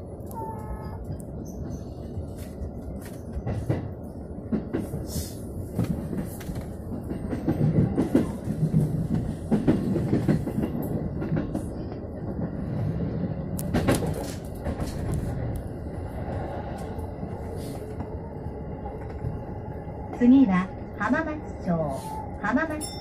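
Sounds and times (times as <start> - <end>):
train wheels rumbling on rail: 0.0 - 22.9.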